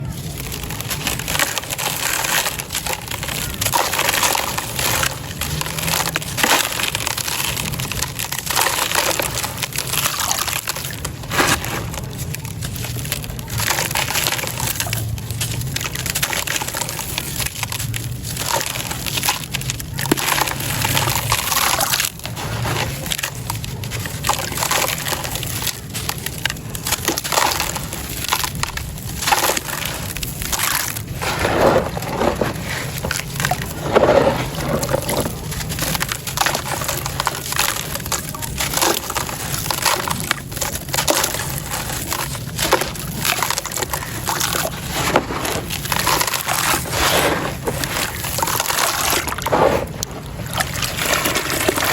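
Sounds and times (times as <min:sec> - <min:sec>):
sand stones crunching by hand: 0:00.1 - 0:51.9.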